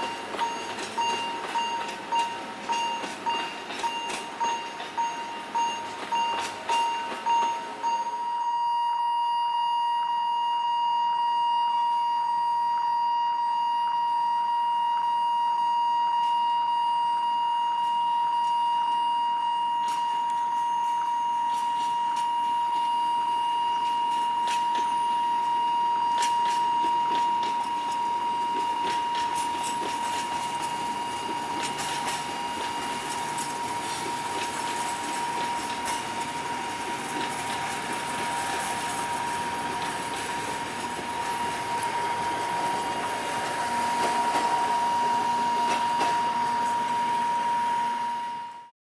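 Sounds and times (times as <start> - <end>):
level crossing warning alarm tone: 0.0 - 48.7.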